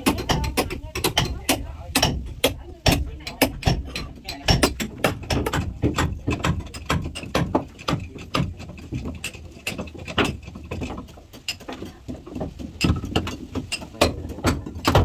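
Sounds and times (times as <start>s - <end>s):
hand tools knocking on wood: 0.0s - 15.0s.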